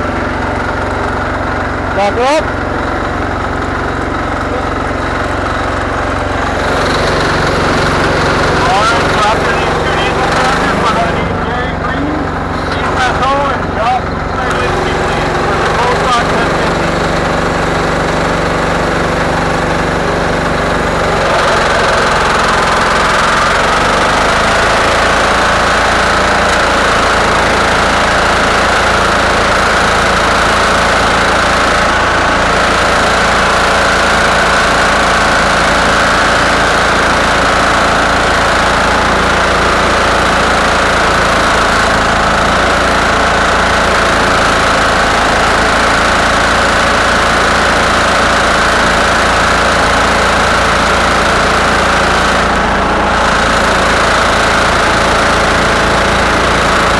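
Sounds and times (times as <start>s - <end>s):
garden tractor engine running: 0.0s - 56.9s.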